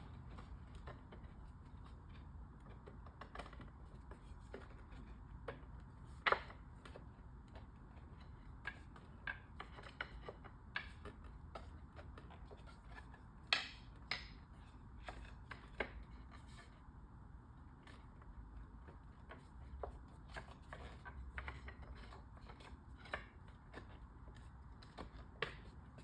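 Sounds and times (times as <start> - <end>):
light clicks and knocks of wooden parts: 0.0 - 26.0.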